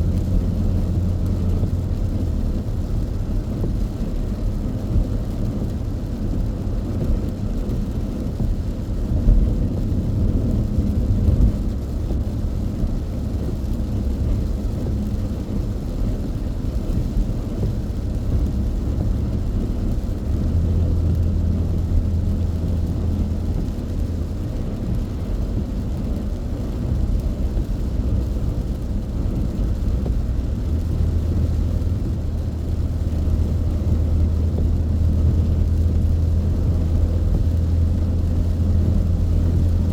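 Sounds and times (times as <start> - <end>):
deep steady drone: 0.0 - 7.1, 8.4 - 39.9
car interior road rumble: 0.0 - 39.9.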